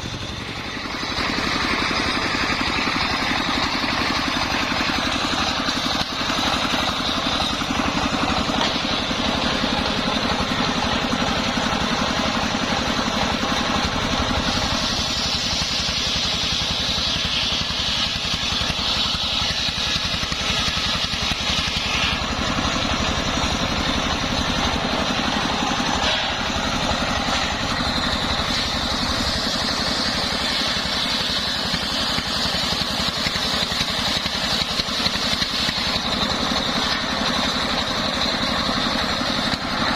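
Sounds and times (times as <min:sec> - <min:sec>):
engine-driven circular saw whining: 0:00.0 - 0:39.9.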